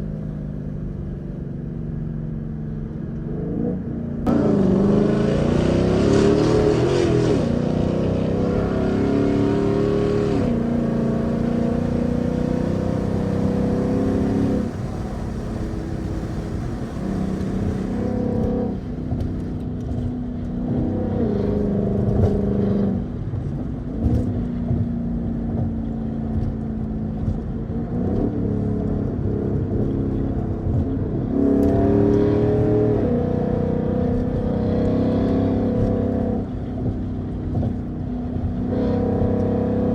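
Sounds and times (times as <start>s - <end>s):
car engine running: 1.5s - 34.5s, 35.1s - 39.9s.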